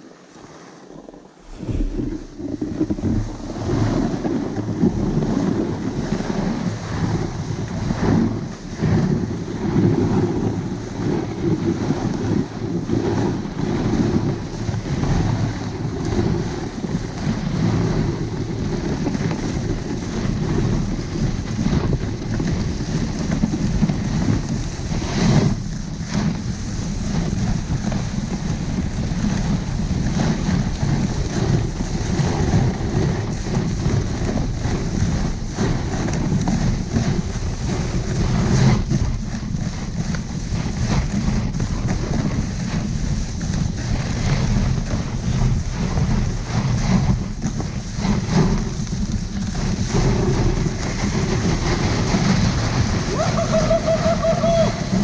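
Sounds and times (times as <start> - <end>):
skis rushing over snow: 0.0 - 55.0
wind buffeting microphone: 0.0 - 55.0.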